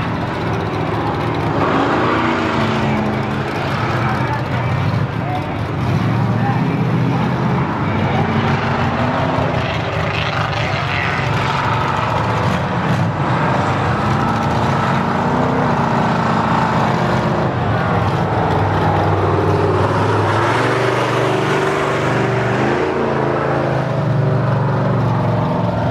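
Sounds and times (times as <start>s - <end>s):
truck engine revving: 0.0s - 25.9s.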